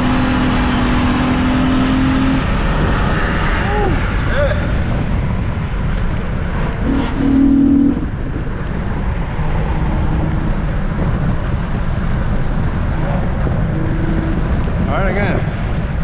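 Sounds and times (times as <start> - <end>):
car engine running under load: 0.0 - 14.9.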